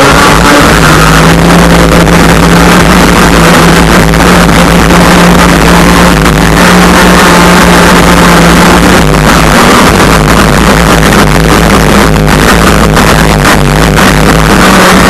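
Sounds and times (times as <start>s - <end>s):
two-stroke boat engine at speed: 0.0s - 15.0s.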